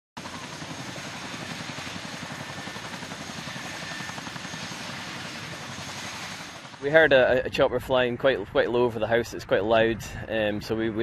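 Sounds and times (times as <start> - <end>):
helicopter rotor beat: 0.2 - 9.2
turbine whine: 0.2 - 11.0.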